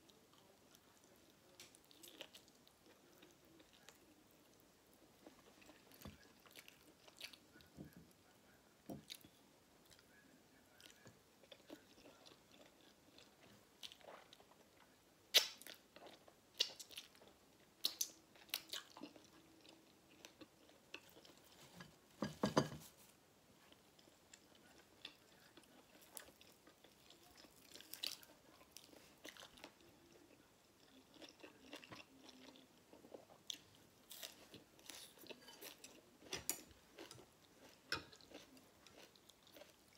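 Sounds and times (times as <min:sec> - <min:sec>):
close chewing with mouth clicks: 0:00.0 - 0:04.6, 0:05.2 - 0:07.7, 0:09.0 - 0:21.8, 0:23.7 - 0:39.9.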